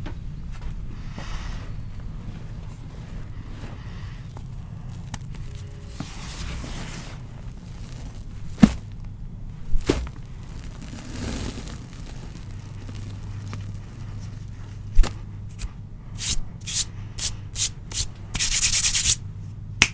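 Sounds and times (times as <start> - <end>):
steady low hum: 0.0 - 19.9
hands squeezing powdered chalk: 2.7 - 19.2.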